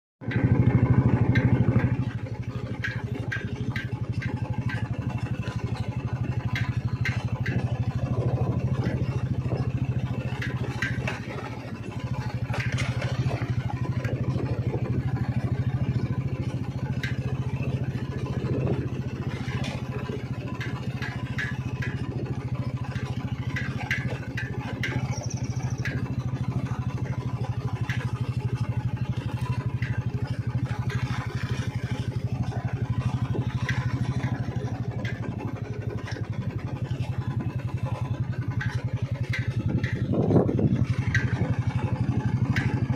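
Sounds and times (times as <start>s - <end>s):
engine running: 0.2s - 42.9s.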